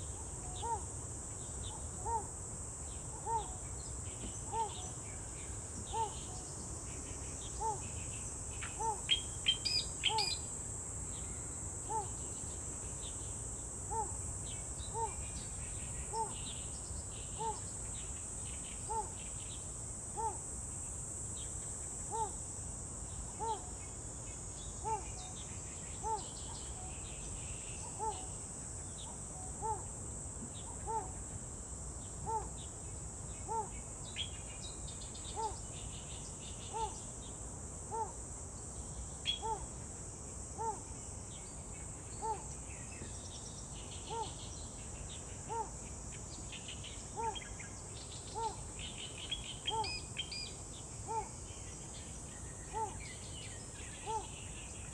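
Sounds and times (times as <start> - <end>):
high drone of insects: 0.0 - 54.9.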